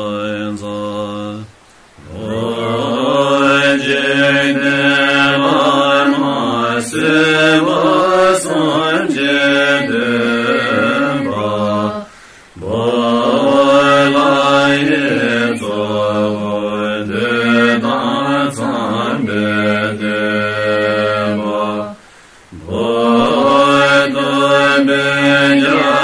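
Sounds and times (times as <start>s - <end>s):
person chanting a mantra: 0.0s - 26.0s.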